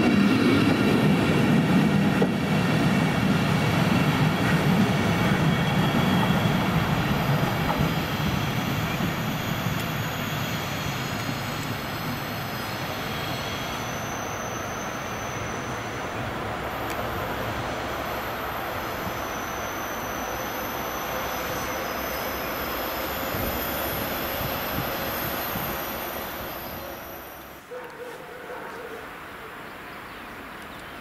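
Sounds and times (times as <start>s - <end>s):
high squeal of train wheels: 0.0s - 28.2s
train rumbling along tracks: 0.0s - 31.0s.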